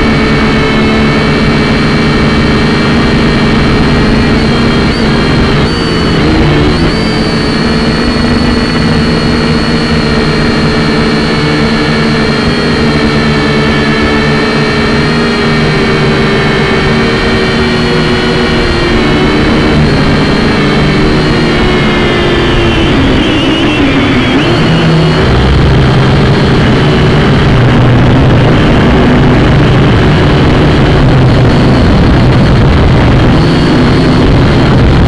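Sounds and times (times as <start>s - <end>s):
drone propellers whining: 0.0s - 35.0s.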